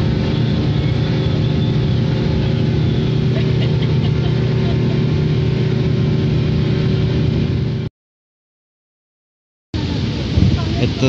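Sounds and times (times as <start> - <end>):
motorboat engine drone: 0.0 - 7.9, 9.8 - 11.0.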